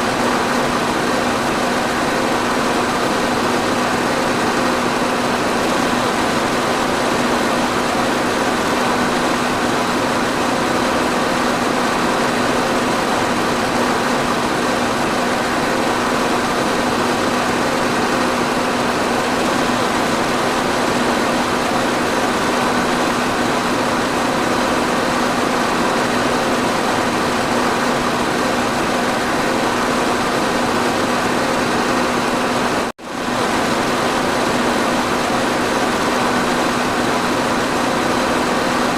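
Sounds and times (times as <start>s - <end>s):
electric fan running: 0.0s - 38.9s.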